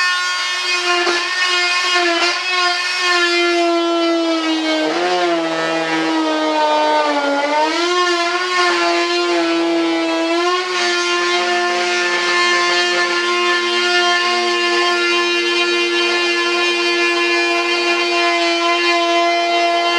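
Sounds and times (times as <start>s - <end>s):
rotary cutter whining: 0.0s - 19.9s.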